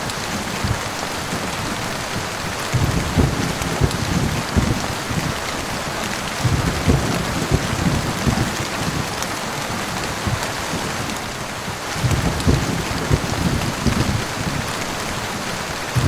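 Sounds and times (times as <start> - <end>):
heavy rain hissing: 0.0 - 16.0
low thumps of rain on surface: 0.0 - 16.0.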